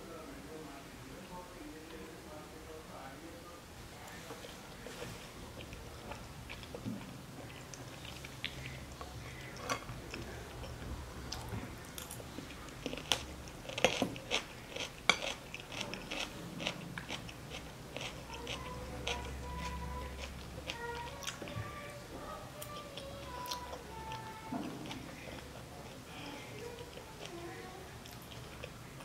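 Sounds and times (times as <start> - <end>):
person chewing food: 4.2 - 21.7, 22.6 - 29.0.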